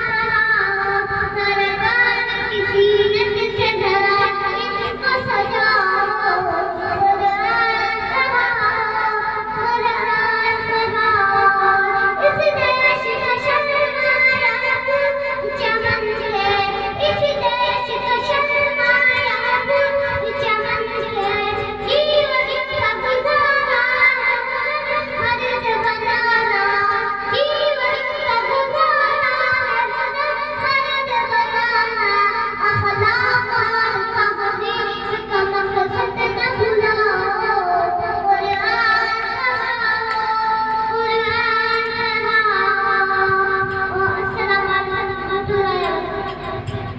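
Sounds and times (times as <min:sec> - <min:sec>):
boy singing: 0:00.0 - 0:46.9.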